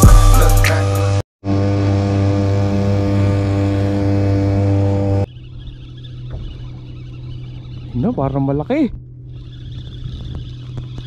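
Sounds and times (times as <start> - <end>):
low hum: 0.0 - 11.0
outboard motor running: 1.0 - 11.0.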